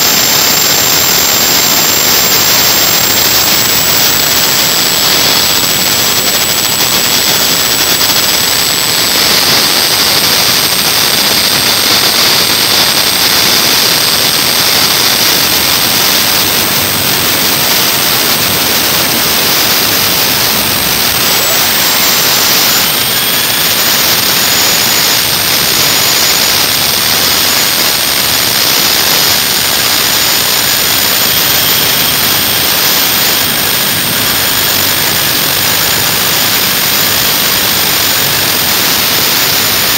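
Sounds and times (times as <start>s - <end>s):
high-pitched whine: 0.0s - 39.9s.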